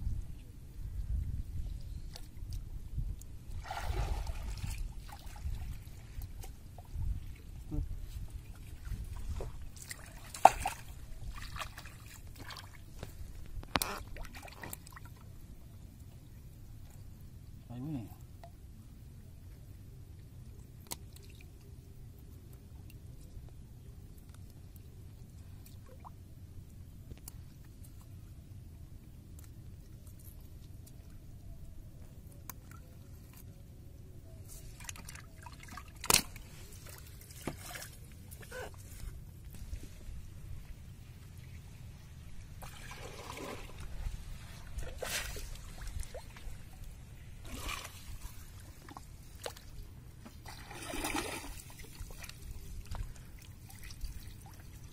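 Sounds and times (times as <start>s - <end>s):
water splashing and trickling: 1.8s - 18.6s, 24.1s - 31.3s, 34.4s - 54.9s.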